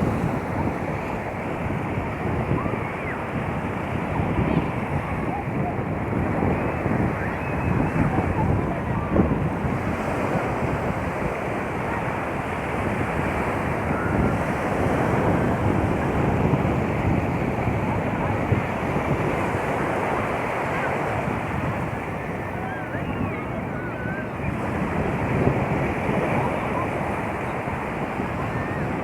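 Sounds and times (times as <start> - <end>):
sea waves washing onto shore: 0.0 - 29.0
wind buffeting microphone: 0.0 - 29.0.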